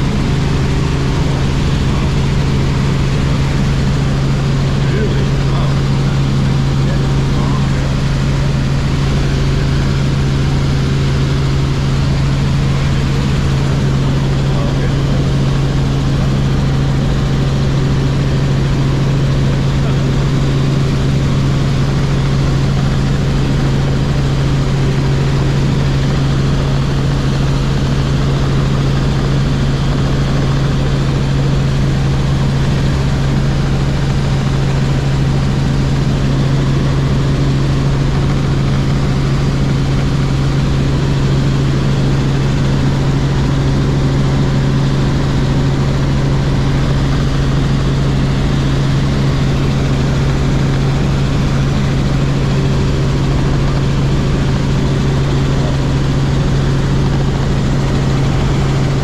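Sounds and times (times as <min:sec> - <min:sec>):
helicopter engine and rotors: 0:00.0 - 0:59.0.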